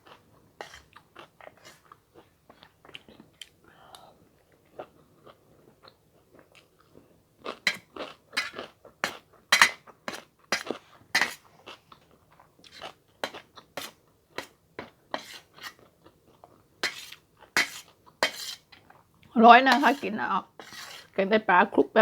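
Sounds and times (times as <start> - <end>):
person chewing crunchy food: 0.0 - 19.3.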